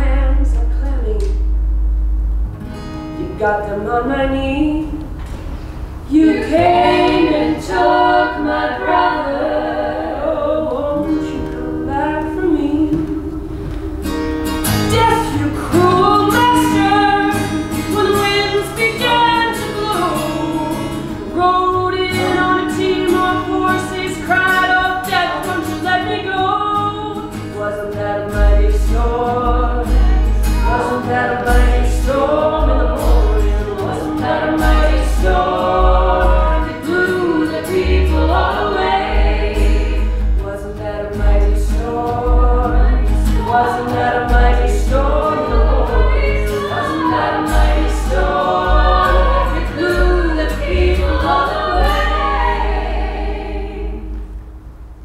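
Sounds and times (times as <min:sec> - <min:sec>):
woman singing: 0:00.0 - 0:01.4, 0:03.2 - 0:05.1, 0:06.1 - 0:52.7
voices singing in harmony: 0:05.4 - 0:54.4.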